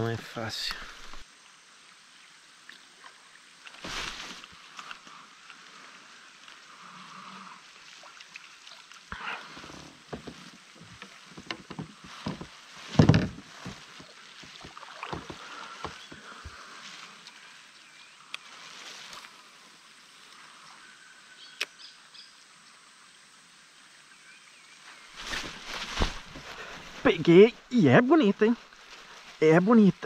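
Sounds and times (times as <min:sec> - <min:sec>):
rain hiss: 0:00.0 - 0:30.0.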